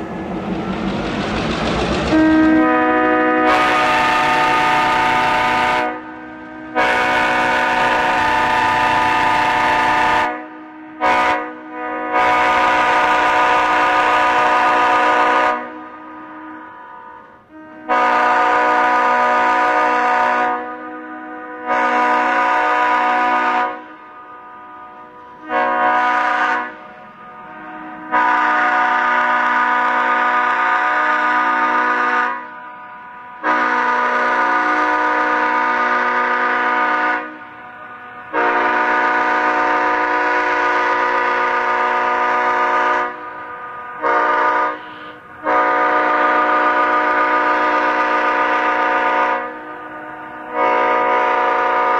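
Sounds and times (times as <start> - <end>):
locomotive air horn blasts: 2.1 - 51.9.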